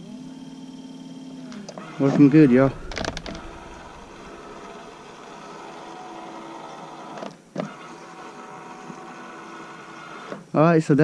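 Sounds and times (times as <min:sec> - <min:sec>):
electric motor humming: 0:00.0 - 0:10.0.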